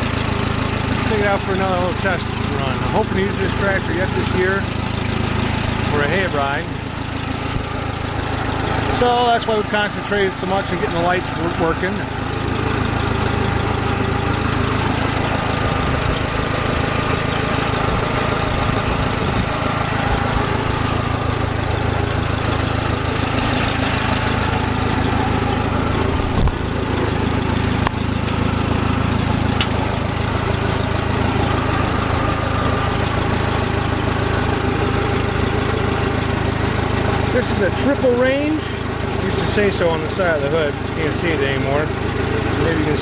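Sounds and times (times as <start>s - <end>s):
engine knock: 0.0s - 43.0s
tractor engine running: 0.0s - 43.0s.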